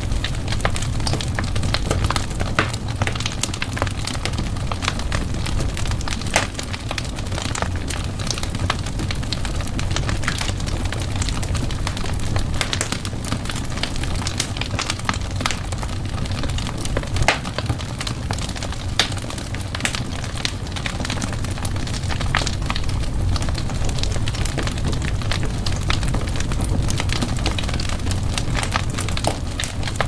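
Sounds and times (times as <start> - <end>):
flames rumbling: 0.0 - 30.0
wood fire crackling: 0.0 - 30.0.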